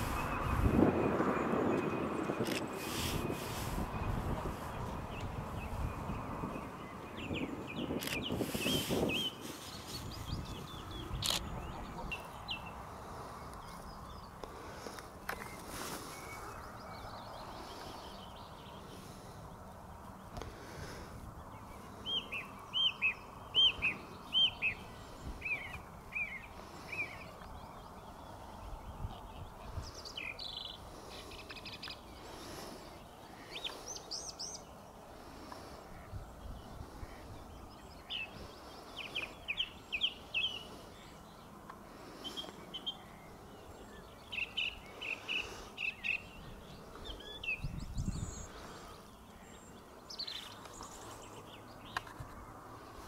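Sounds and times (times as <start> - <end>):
outdoor background noise: 0.0 - 53.0.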